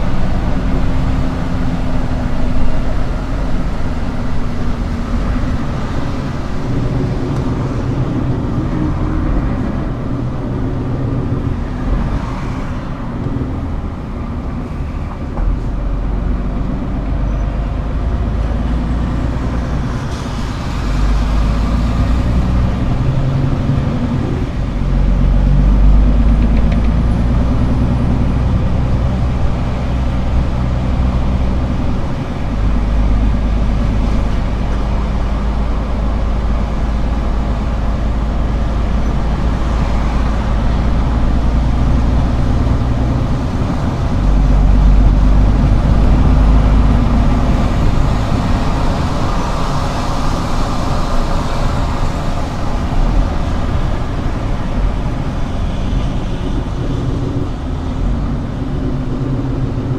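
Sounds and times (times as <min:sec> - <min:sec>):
diesel truck engine droning: 0:00.0 - 0:59.9
rushing noise: 0:00.0 - 0:59.9.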